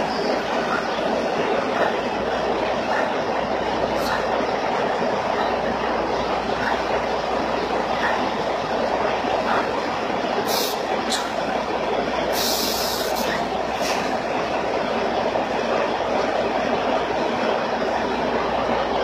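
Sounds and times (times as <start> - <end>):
steady mechanical noise: 0.0 - 19.0.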